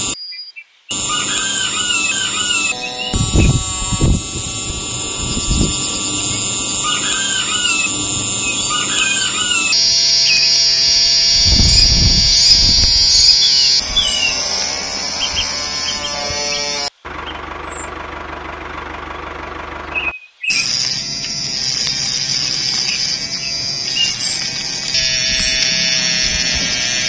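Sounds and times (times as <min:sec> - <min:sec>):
birds chirping: 0:00.0 - 0:27.0
small electric motor whine: 0:00.9 - 0:18.0, 0:20.4 - 0:27.0.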